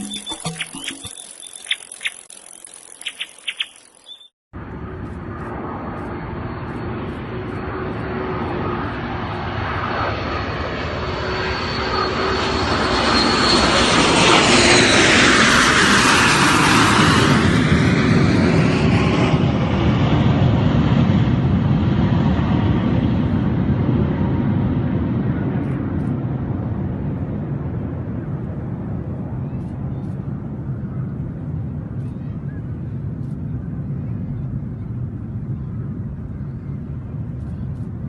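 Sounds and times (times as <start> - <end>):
aircraft engines flying past: 4.6 - 38.0.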